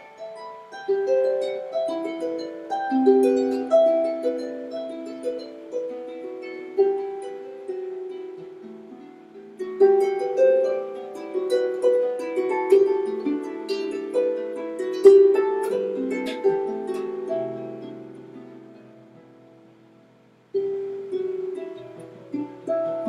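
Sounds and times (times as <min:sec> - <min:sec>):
harp plucked notes: 0:00.0 - 0:23.0.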